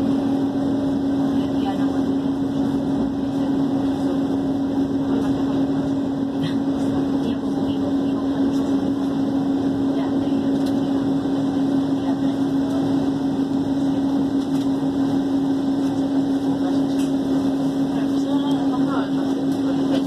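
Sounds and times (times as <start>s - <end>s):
constant drone: 0.0s - 20.0s
train running rumble: 0.0s - 20.0s.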